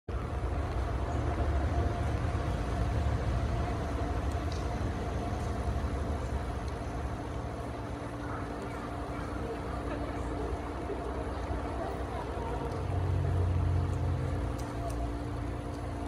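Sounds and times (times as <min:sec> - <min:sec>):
faint mechanical hum: 0:00.1 - 0:16.0
low rumble: 0:00.1 - 0:16.0.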